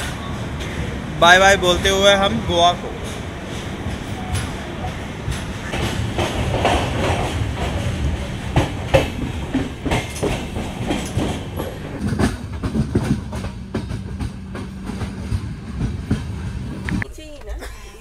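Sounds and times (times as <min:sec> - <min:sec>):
wheels clacking over rails: 0:00.0 - 0:17.0
train rumbling: 0:00.0 - 0:18.0.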